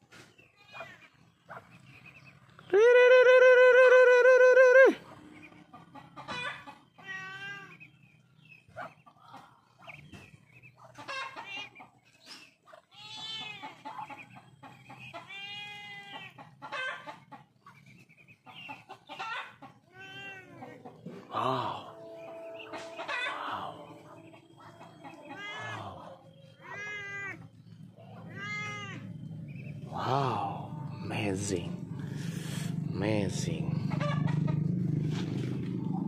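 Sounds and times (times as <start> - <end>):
poultry calling: 0.2 - 36.0.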